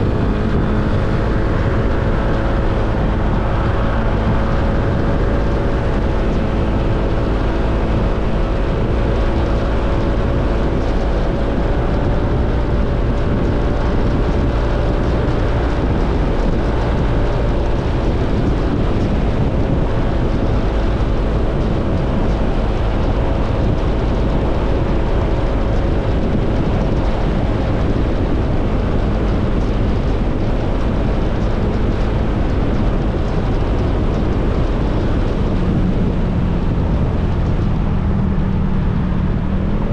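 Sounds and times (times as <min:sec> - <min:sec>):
motorcycle engine rumble: 0:00.0 - 0:39.9
road noise: 0:00.0 - 0:39.9
wind noise: 0:00.0 - 0:39.9.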